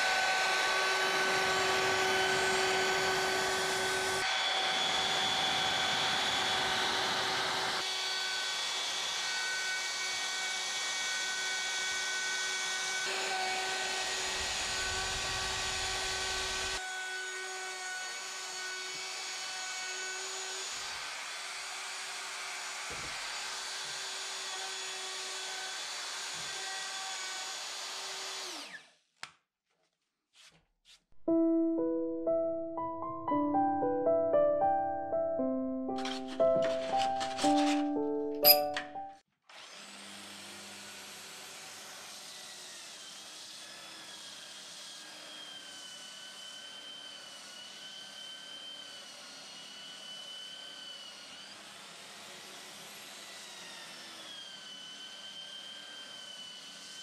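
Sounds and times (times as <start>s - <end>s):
router bit cutting wood: 0.0s - 28.9s, 39.5s - 57.0s
router motor whine: 0.0s - 28.9s, 39.5s - 57.0s.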